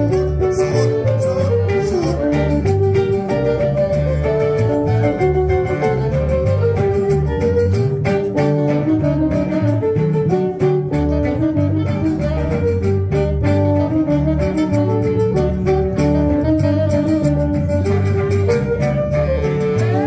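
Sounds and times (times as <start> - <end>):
bowed violin melody: 0.0 - 20.0
guitars playing: 0.0 - 20.0
steady bass line: 0.0 - 20.0.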